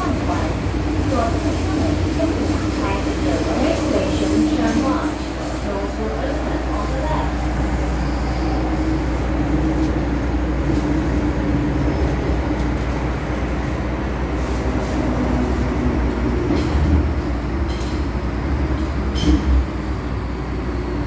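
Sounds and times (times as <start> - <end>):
train hum: 0.0 - 21.0
train wheels rumbling: 0.0 - 21.0.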